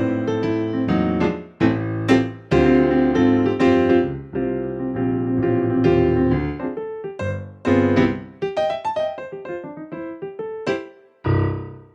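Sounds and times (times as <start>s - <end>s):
piano playing: 0.0s - 11.9s.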